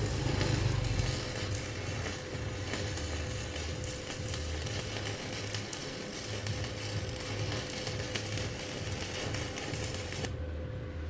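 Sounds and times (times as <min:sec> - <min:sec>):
welding arc crackling: 0:00.0 - 0:10.4.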